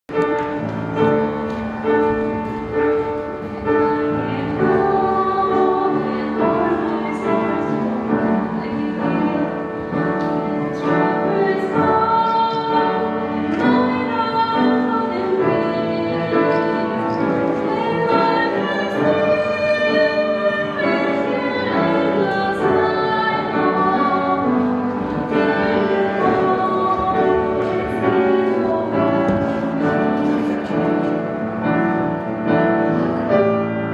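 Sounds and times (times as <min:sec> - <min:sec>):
women's vocal ensemble singing: 0:03.6 - 0:31.8.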